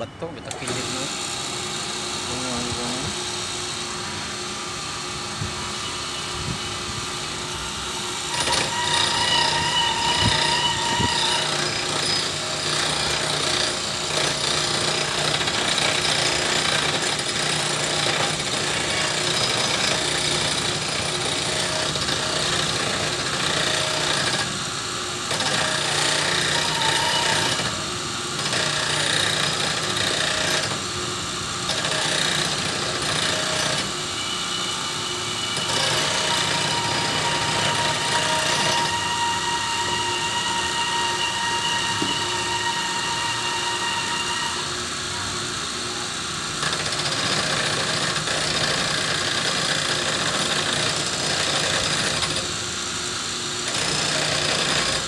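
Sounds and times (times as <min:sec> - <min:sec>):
grinding wheel on steel: 0:05.8 - 0:31.0, 0:31.6 - 0:45.7, 0:46.6 - 0:52.6, 0:53.6 - 0:55.0.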